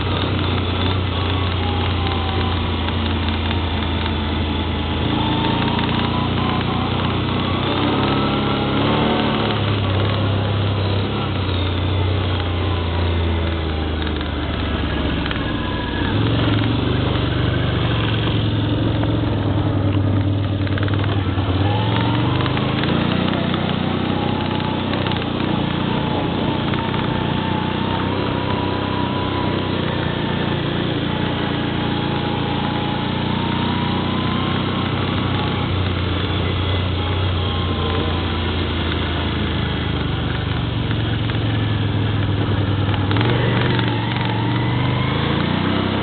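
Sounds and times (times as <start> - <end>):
atv engine revving: 0.0 - 46.0.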